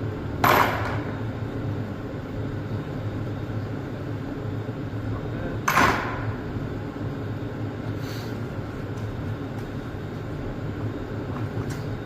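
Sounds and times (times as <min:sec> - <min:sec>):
low workshop hum: 0:00.0 - 0:12.0.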